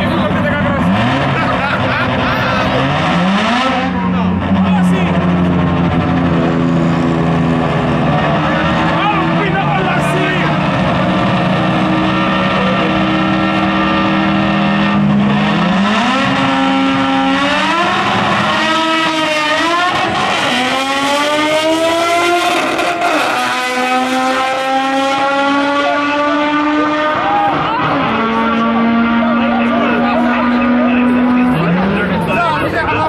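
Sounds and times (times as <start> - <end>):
car engine accelerating: 0.0 - 33.0
pickup truck engine accelerating: 0.0 - 33.0.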